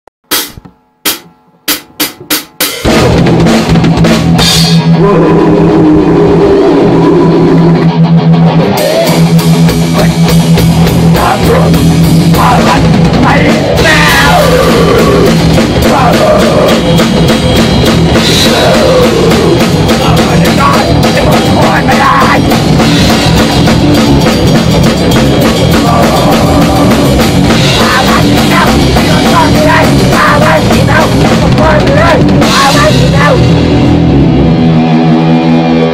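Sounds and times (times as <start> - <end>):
loud rock music: 0.3 - 35.9.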